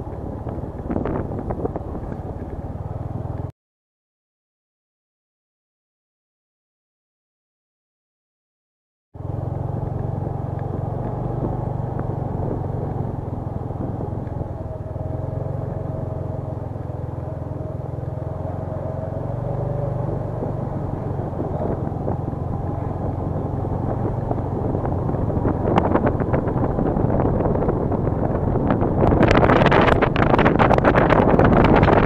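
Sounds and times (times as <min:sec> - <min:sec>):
vehicle engine and road noise: 0:00.0 - 0:03.5, 0:09.2 - 0:32.0.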